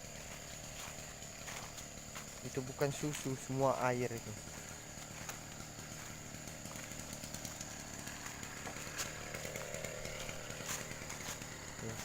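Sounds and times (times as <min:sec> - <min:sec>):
small two-stroke engine running: 0:00.0 - 0:12.0.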